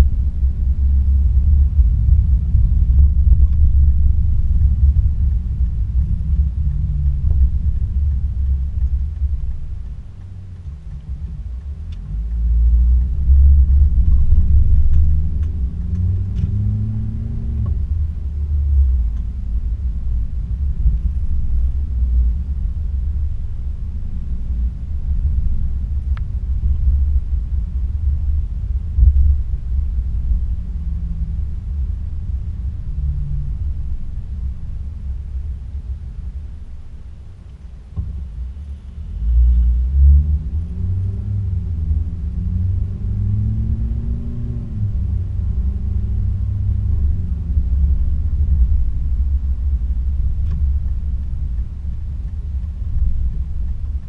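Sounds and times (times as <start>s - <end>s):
car engine: 0.0s - 54.0s
road and wind noise: 0.0s - 54.0s.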